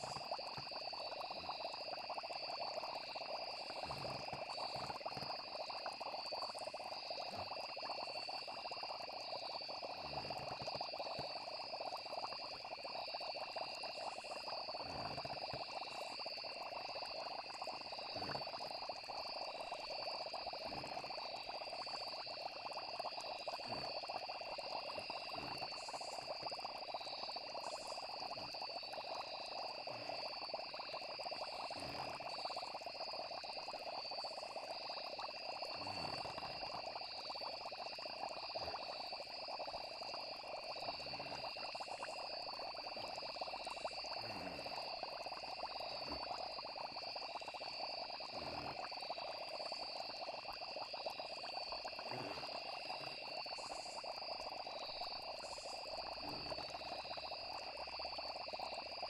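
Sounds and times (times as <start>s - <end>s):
frogs calling: 0.0s - 59.0s
insects trilling: 0.0s - 59.0s.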